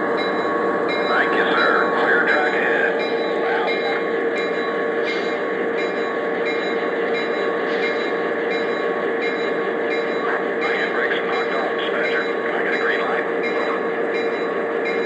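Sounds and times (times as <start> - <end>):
model train running hum: 0.0 - 15.0.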